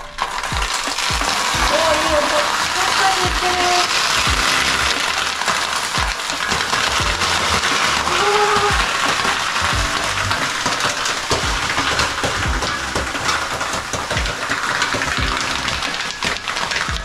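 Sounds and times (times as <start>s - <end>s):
water hissing on hot stones: 0.0s - 17.0s.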